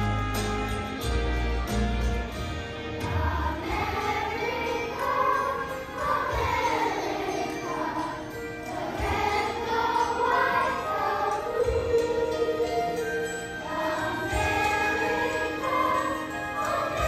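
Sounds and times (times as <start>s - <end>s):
children's choir singing: 2.5s - 17.0s.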